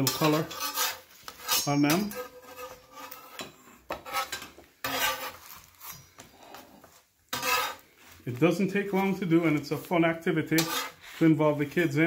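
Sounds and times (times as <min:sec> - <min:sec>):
metal spatula scraping griddle: 0:00.0 - 0:12.0.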